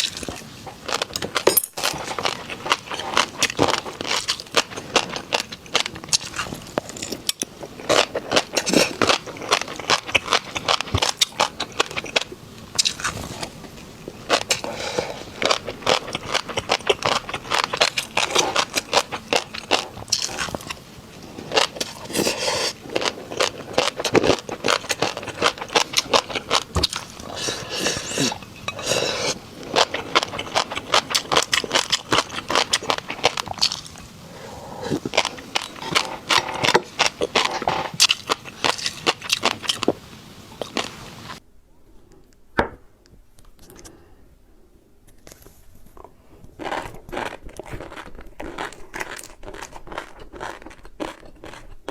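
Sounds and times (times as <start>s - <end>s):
chewing crunchy snacks: 0.0s - 34.1s, 34.7s - 40.0s, 46.5s - 51.9s.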